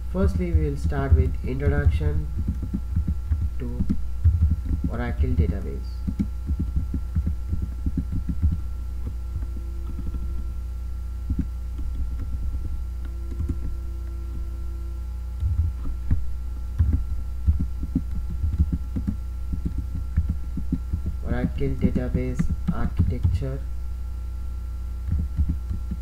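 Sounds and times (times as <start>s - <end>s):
steady low hum: 0.0s - 26.0s
computer keyboard typing: 0.3s - 10.5s, 11.3s - 14.5s, 15.4s - 23.6s, 25.0s - 26.0s.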